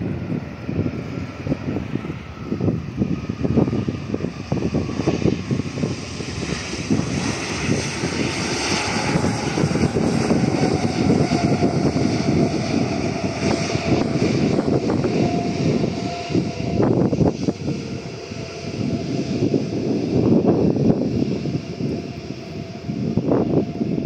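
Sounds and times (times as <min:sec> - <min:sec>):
jet engines rushing: 0:00.0 - 0:24.0
wind rumbling on microphone: 0:00.0 - 0:24.0.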